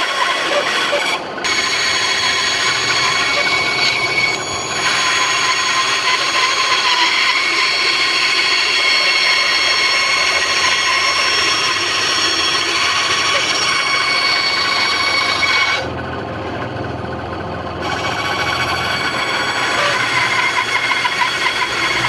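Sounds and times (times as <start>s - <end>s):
band saw cutting wood: 0.0s - 16.8s, 17.6s - 22.0s.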